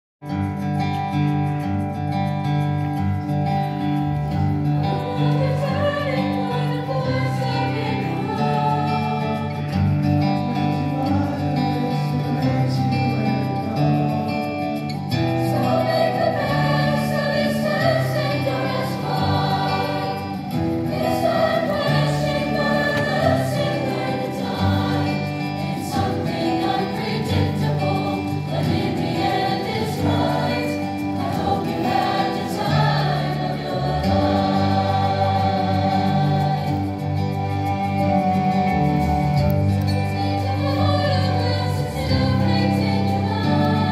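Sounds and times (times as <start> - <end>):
choir singing in harmony: 3.6 - 43.9.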